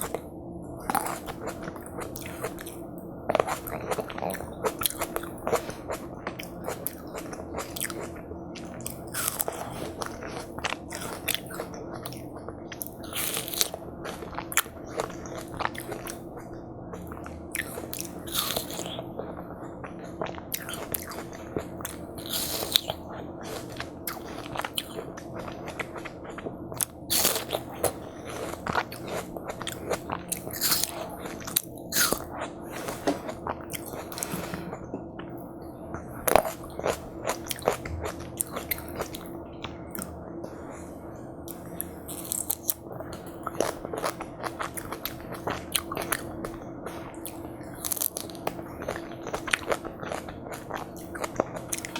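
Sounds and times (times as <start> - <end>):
chewing: 0.0 - 40.2, 41.5 - 51.9
faint steady hum: 0.0 - 51.9.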